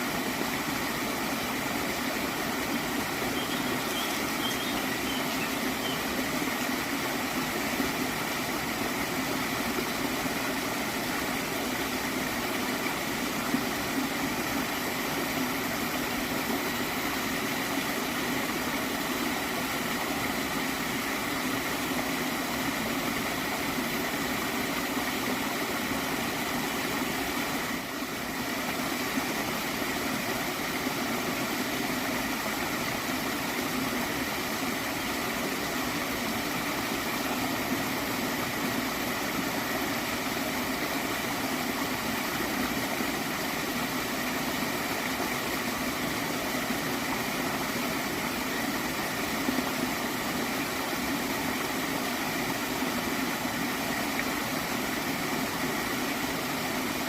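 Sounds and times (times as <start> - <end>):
stream of water gurgling: 0.0 - 57.0.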